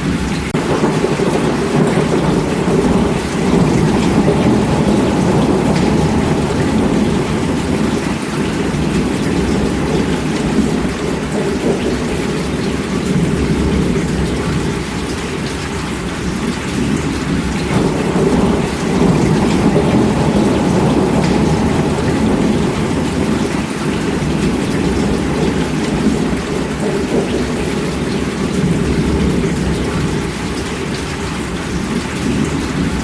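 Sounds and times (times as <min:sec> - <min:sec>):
distant thunder rumbling: 0:00.0 - 0:33.0
heavy rain falling: 0:00.0 - 0:33.0.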